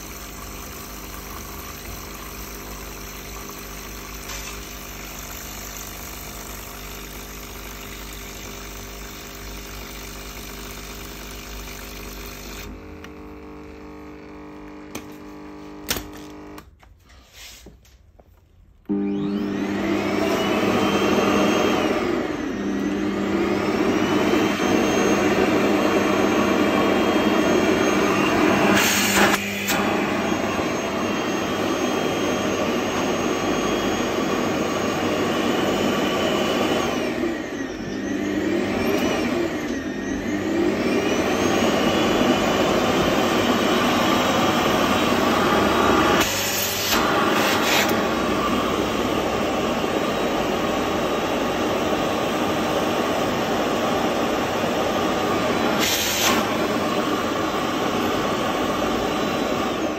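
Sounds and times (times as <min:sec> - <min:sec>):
vacuum cleaner motor whining: 0:00.0 - 0:17.5, 0:18.8 - 0:59.9.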